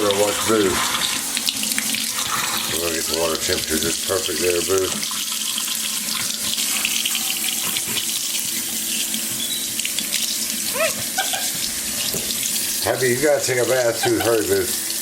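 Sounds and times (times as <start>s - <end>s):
tap water running into bath: 0.0s - 15.0s.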